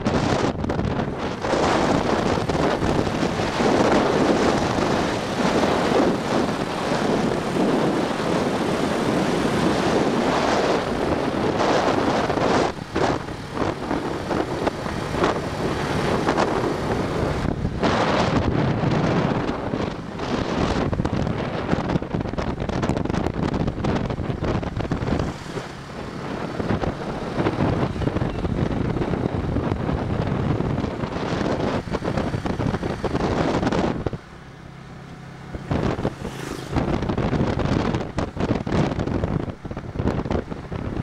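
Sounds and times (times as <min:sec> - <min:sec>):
wind rushing over microphone: 0:00.0 - 0:41.0
scooter engine running: 0:00.2 - 0:41.0.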